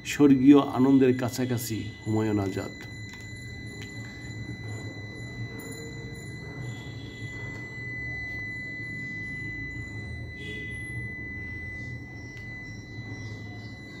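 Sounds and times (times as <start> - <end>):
high-pitched whine: 0.0 - 14.0
low even hum: 0.0 - 14.0.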